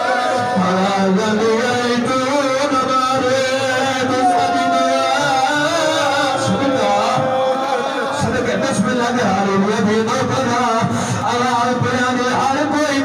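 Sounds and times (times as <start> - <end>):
man chanting into a microphone: 0.0 - 13.0.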